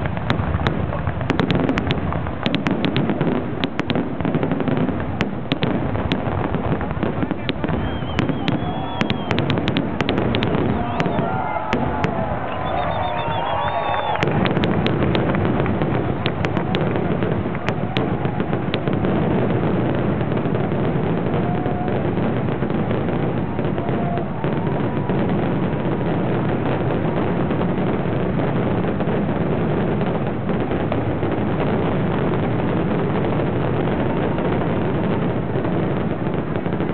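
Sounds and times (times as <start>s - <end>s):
fireworks crackle: 0.0s - 36.9s.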